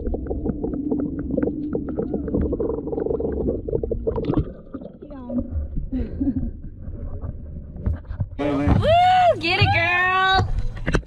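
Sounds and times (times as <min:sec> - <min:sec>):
low underwater rumble: 0:00.0 - 0:11.0.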